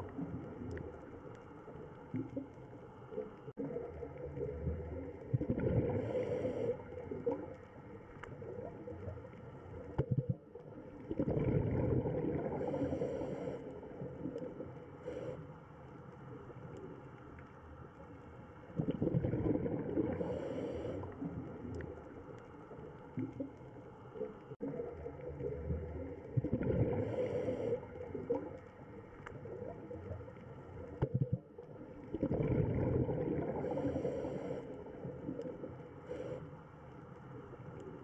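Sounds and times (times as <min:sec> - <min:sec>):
exhaled bubbles gurgling: 0:00.0 - 0:15.4, 0:18.6 - 0:36.5
low underwater hum: 0:00.0 - 0:38.0.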